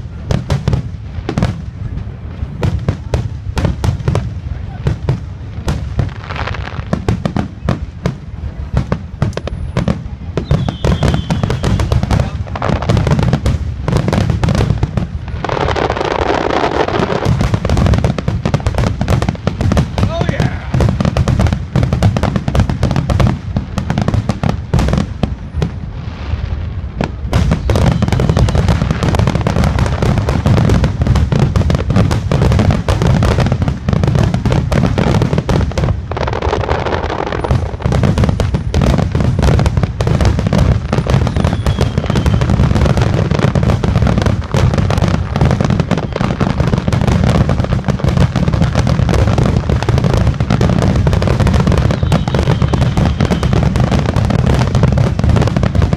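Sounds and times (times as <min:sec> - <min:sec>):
fireworks bursting and crackling: 0:00.0 - 0:55.9.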